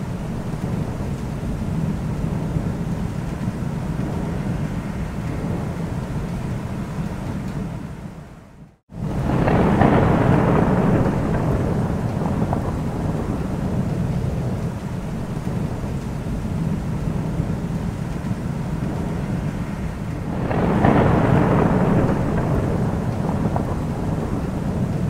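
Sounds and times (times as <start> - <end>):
steady rain: 0.0 - 25.0
thunder rumbling: 0.0 - 25.0.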